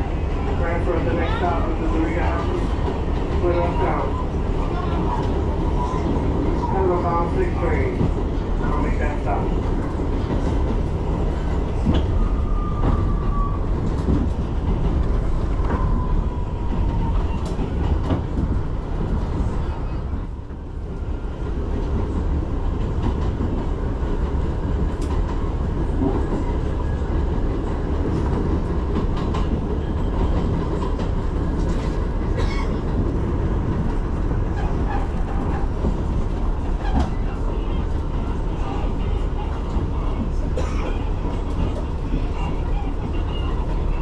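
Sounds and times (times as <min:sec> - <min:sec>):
subway wheels rumbling on rails: 0:00.0 - 0:44.0.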